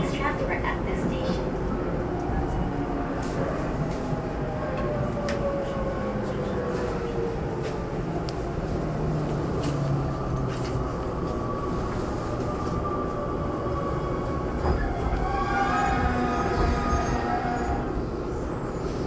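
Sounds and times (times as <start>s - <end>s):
train running noise: 0.0s - 19.0s.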